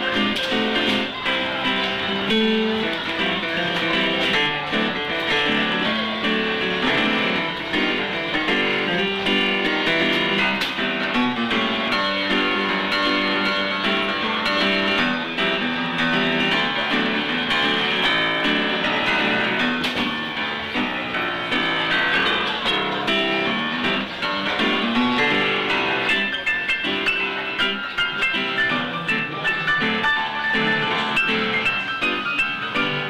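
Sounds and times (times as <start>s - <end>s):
upright piano playing: 0.0s - 33.0s.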